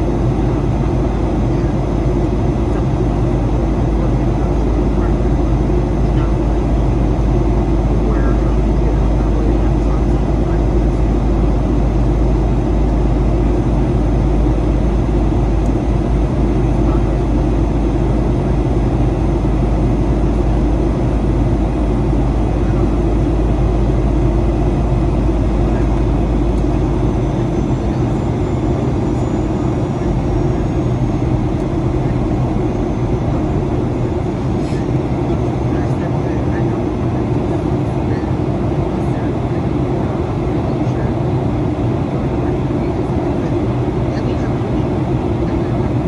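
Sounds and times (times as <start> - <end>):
airplane cabin engine roar: 0.0 - 46.0.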